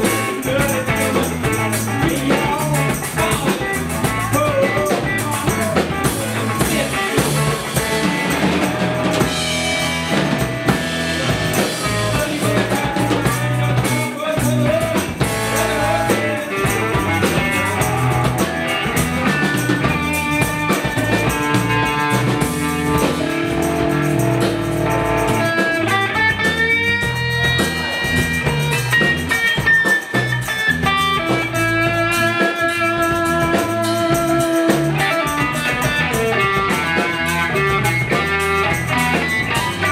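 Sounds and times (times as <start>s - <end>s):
blues-rock band playing: 0.0s - 39.9s
sustained guitar notes: 2.8s - 14.2s, 15.2s - 39.9s.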